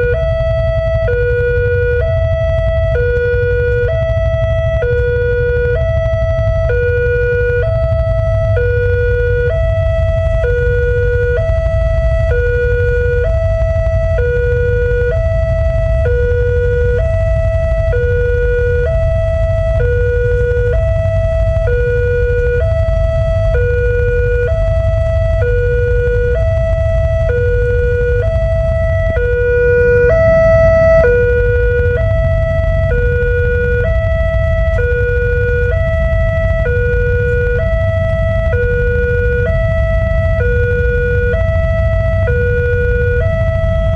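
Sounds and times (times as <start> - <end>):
steady low rumble: 0.0 - 43.9
two-tone crossing alarm: 0.0 - 43.9.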